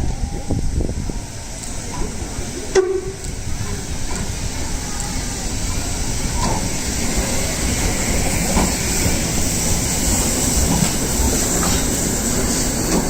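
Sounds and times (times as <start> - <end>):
steam train rumbling: 0.0 - 13.0.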